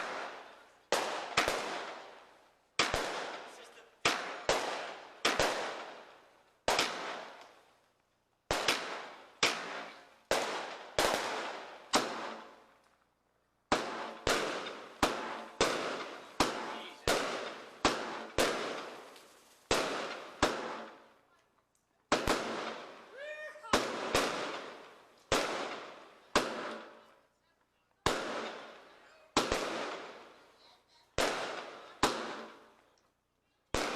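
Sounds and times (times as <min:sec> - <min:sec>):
fireworks bangs: 0:00.0 - 0:07.8, 0:08.5 - 0:13.0, 0:13.6 - 0:21.2, 0:22.0 - 0:32.9, 0:33.7 - 0:33.9.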